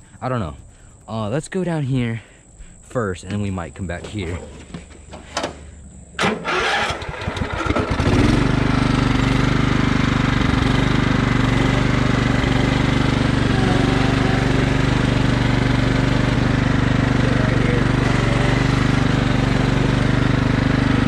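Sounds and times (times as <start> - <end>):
lawn mower engine starting: 4.0 - 21.0.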